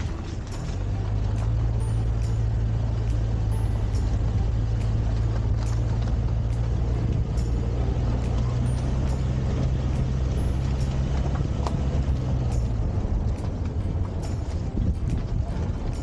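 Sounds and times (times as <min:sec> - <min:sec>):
vehicle driving drone: 0:00.0 - 0:16.0.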